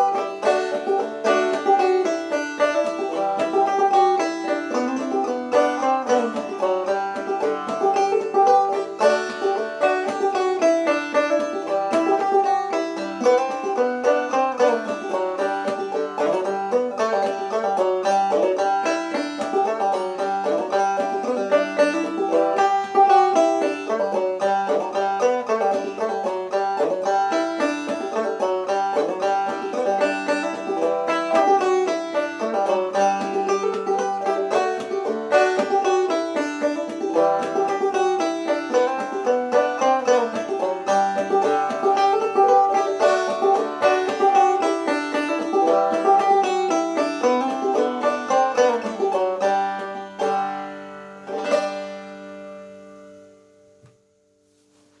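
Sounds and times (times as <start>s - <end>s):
ringing banjo chords: 0.0s - 54.3s
banjo played clawhammer style: 0.0s - 55.0s.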